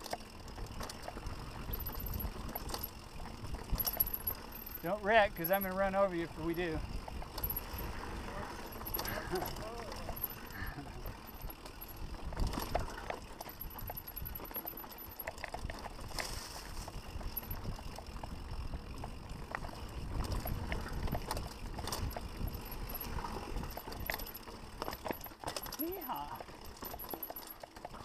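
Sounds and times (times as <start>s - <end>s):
bike rattling and clicking: 0.0s - 28.0s.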